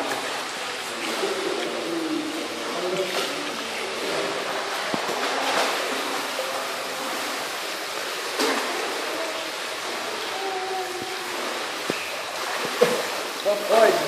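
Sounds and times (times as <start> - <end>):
pool water splashing: 0.0 - 14.0
rush of water: 0.0 - 14.0.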